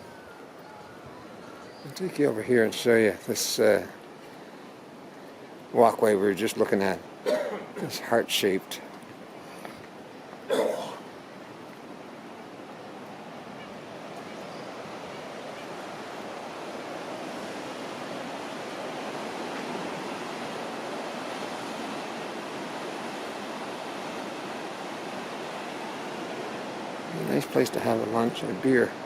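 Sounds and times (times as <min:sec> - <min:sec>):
ocean surf washing ashore: 0:00.0 - 0:29.0.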